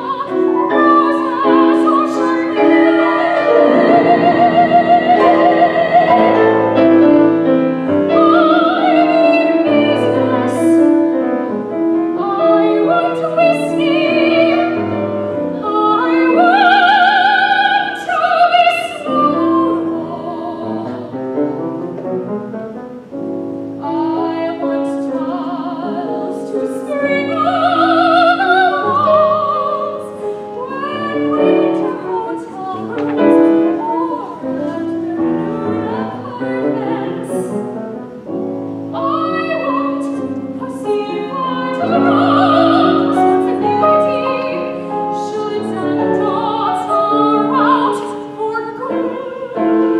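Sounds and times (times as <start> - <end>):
soprano singing with vibrato: 0.0 - 21.8, 23.6 - 49.9
grand piano accompaniment: 0.0 - 49.9.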